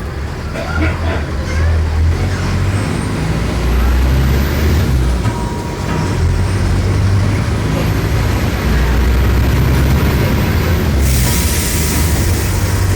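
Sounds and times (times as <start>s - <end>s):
bus diesel engine running: 0.0s - 12.9s.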